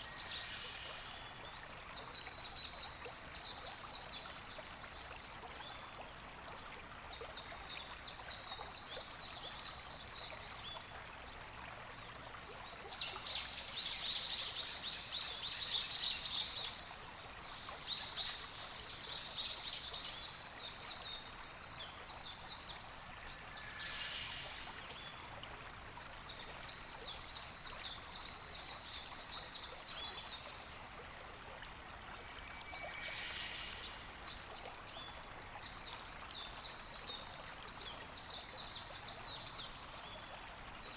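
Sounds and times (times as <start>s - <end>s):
outdoor background hiss: 0.0s - 40.9s.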